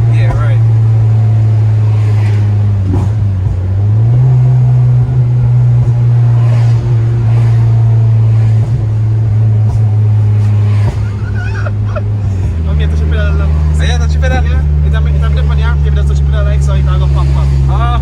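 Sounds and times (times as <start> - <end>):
car engine and exhaust droning: 0.0 - 18.0.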